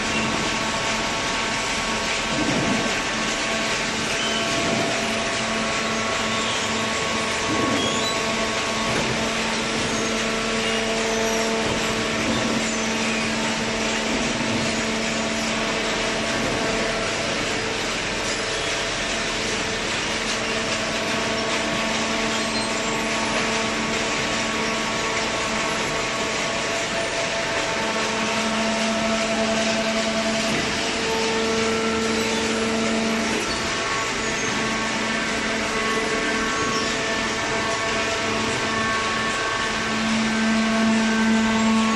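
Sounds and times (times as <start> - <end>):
baler machine humming: 0.0 - 41.9.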